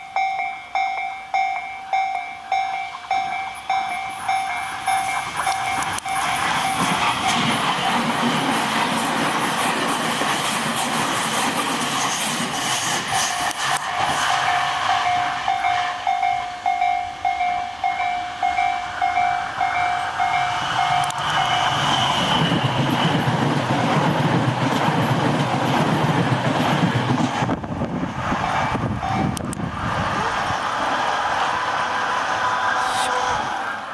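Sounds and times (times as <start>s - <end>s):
train wheels on rails: 0.0s - 33.9s.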